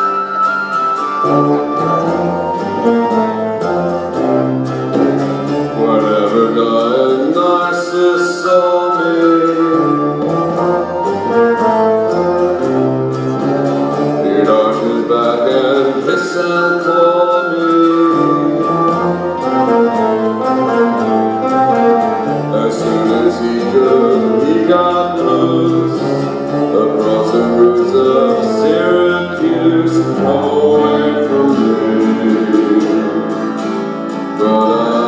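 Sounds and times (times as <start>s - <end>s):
bass line: 0.0s - 35.0s
keyboards: 0.0s - 35.0s.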